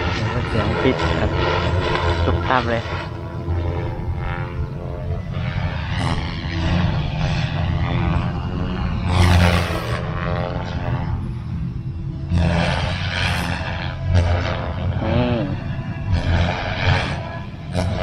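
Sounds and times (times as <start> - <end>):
model helicopter rotor whine: 0.0 - 18.0.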